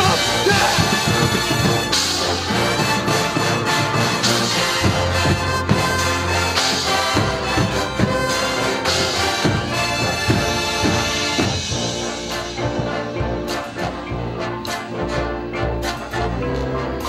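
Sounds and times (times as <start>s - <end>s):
percussion hits: 0.0s - 16.4s
marching band brass: 0.0s - 17.0s.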